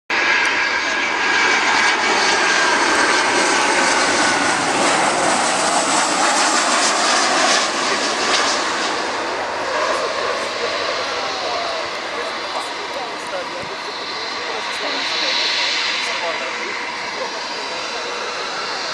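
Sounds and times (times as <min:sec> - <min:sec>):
jet engines roaring past: 0:00.1 - 0:18.9.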